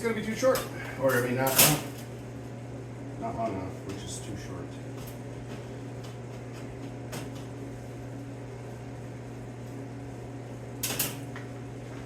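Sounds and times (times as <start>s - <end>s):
electrical hum of shop equipment: 0.0s - 12.0s.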